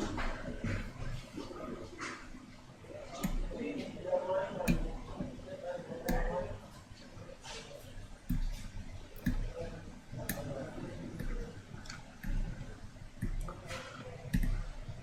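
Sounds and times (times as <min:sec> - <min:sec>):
hand tools clicking and tapping: 0:03.0 - 0:15.0.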